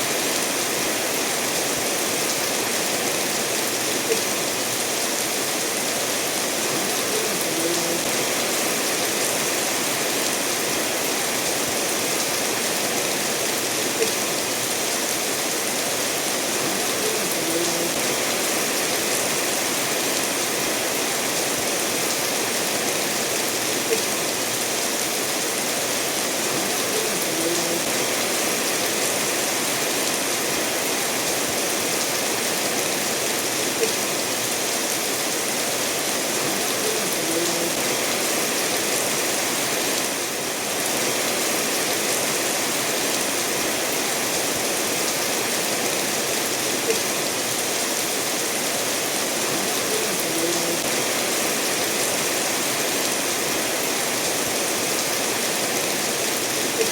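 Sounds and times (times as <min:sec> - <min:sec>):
steady rain falling: 0:00.0 - 0:56.9
stream flowing over stones: 0:00.0 - 0:56.9.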